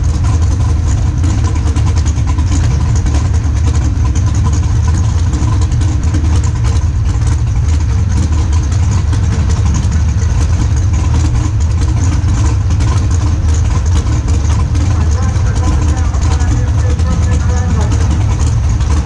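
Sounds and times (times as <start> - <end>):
dragster engine idling: 0.0 - 19.0.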